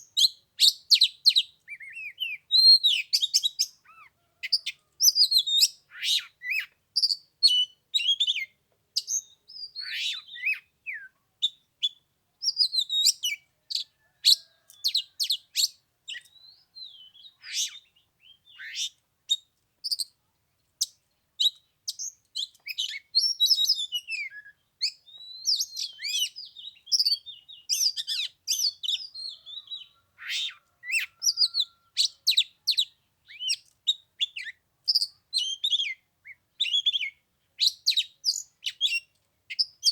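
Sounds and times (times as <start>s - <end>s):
bird singing whistles and chirps: 0.0s - 20.1s, 21.4s - 39.9s.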